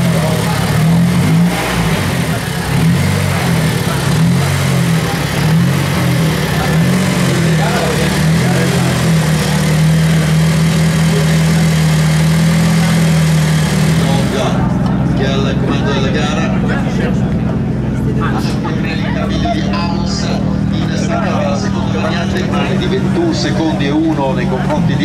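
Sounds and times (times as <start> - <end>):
race car engine idling with blips: 0.0 - 25.0.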